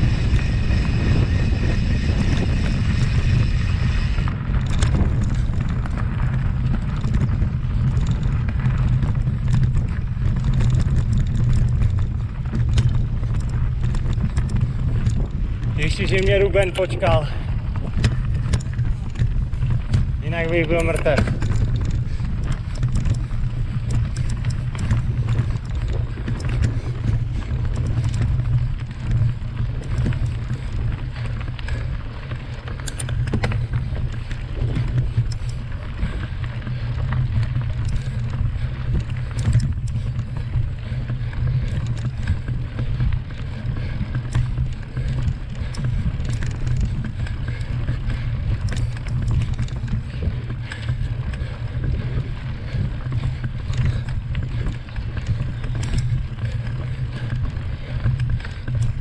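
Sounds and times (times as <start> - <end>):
bike clicks and rattles: 0.0 - 59.0
wind buffeting microphone: 0.0 - 59.0.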